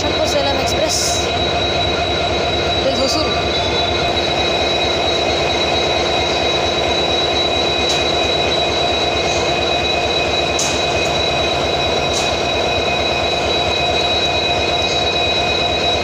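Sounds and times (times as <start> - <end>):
high whine: 0.0 - 16.0
rumble of wheels on rail: 0.0 - 16.0.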